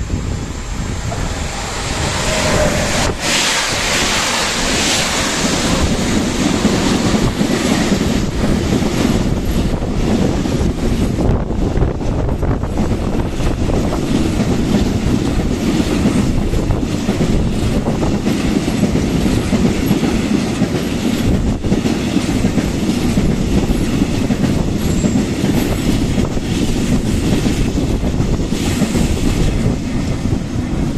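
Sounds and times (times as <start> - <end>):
freight train wheels rumbling on rails: 0.0 - 30.9.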